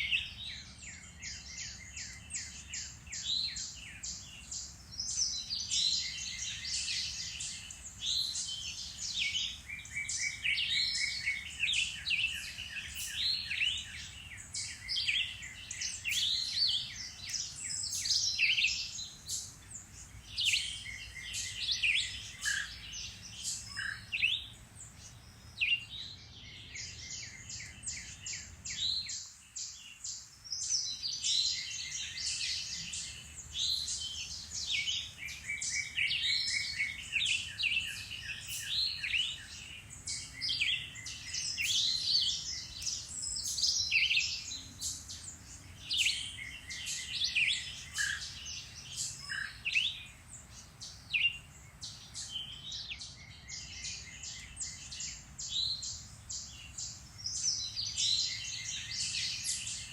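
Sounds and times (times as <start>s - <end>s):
woodland birds singing: 0.0s - 59.9s.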